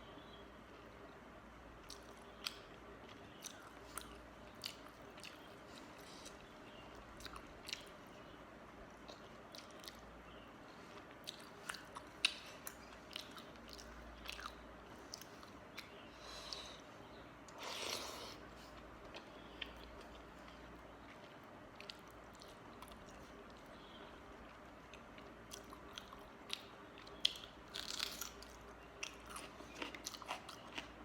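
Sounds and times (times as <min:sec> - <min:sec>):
person chewing food: 0:01.8 - 0:08.2, 0:09.0 - 0:10.0, 0:10.8 - 0:31.0.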